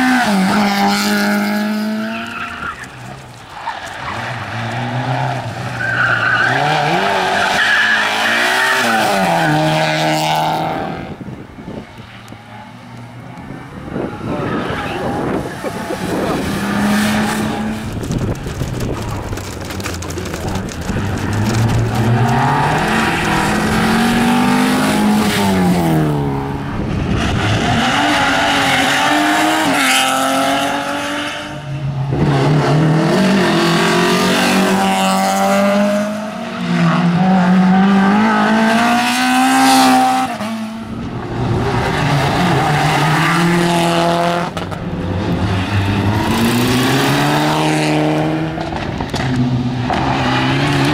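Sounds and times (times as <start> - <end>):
rally car engines revving: 0.0 - 50.9.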